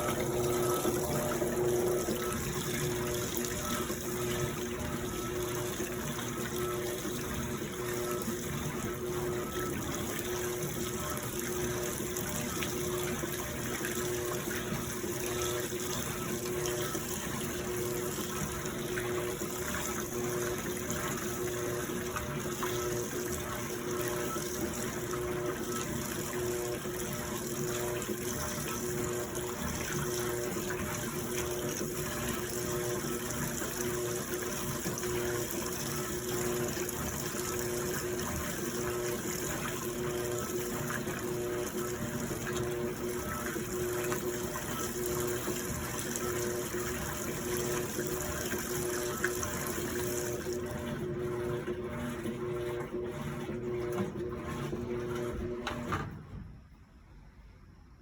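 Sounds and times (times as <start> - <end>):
water rushing in washing machine: 0.0 - 57.2.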